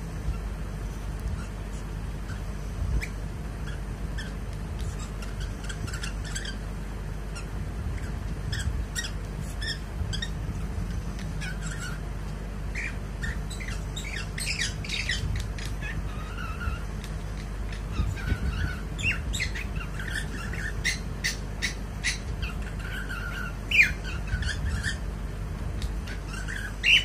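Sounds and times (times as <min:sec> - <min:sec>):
cockatiel chirping and whistling: 0:02.3 - 0:06.6, 0:07.4 - 0:12.0, 0:12.7 - 0:25.0, 0:26.0 - 0:27.0.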